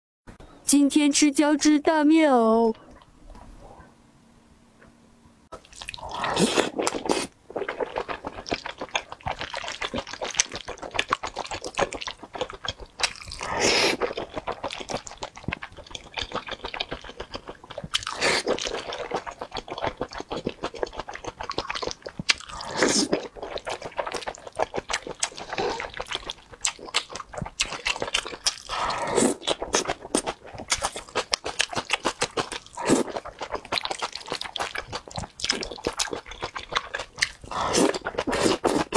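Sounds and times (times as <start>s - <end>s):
smacking and chewing: 5.5s - 38.9s
noodles slurped: 5.6s - 38.9s.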